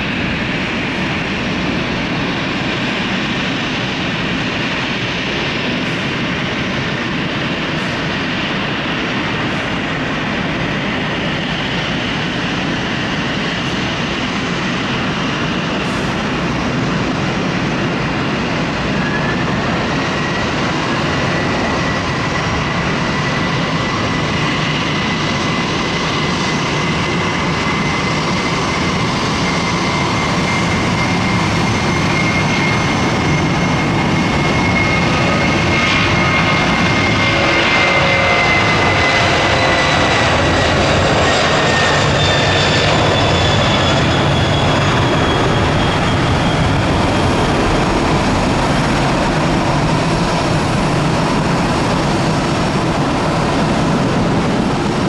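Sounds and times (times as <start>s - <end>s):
jet engines roaring at takeoff: 0.0s - 55.0s.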